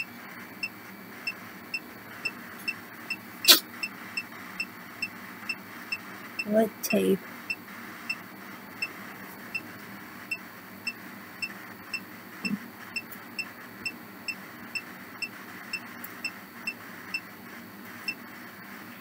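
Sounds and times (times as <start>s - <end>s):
static hiss: 0.0s - 19.0s.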